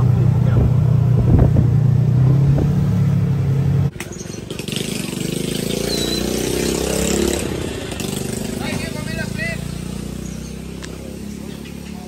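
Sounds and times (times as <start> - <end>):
engine pitch rising: 0.0 - 12.0
vehicle engine humming: 0.0 - 12.0.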